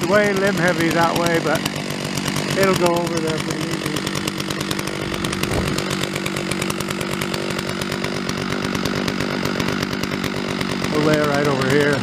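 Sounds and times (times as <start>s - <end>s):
chainsaw idling: 0.0s - 12.0s.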